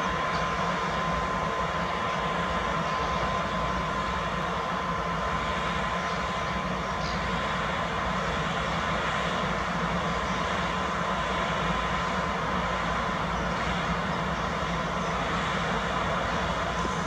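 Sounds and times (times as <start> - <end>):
electric locomotive passing: 0.0 - 17.0.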